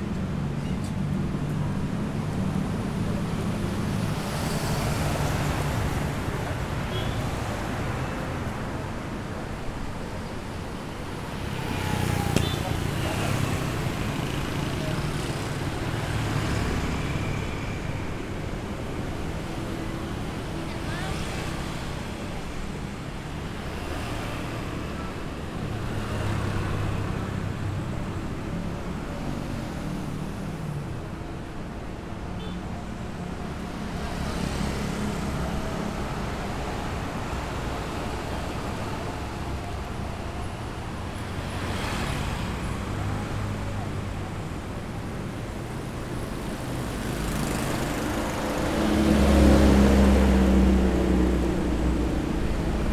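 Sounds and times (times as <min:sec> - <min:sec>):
tyre noise from passing cars: 0:00.0 - 0:31.6, 0:33.4 - 0:52.9
vehicle engines rumbling: 0:00.0 - 0:52.9.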